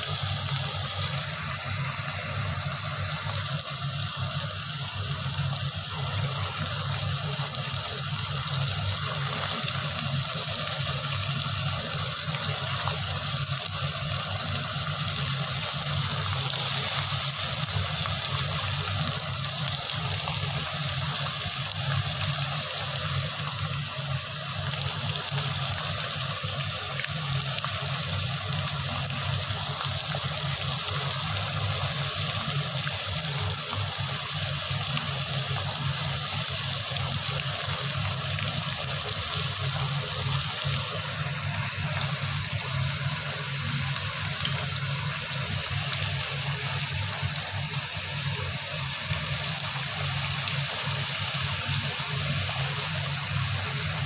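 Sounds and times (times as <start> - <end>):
tap water running: 0.0 - 54.0.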